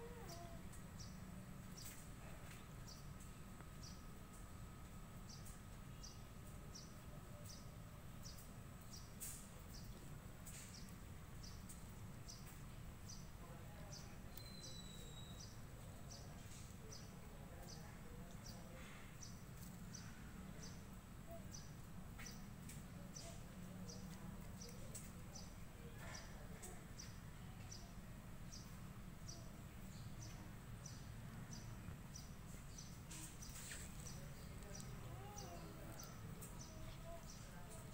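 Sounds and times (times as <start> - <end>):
low background noise: 0.0 - 37.9.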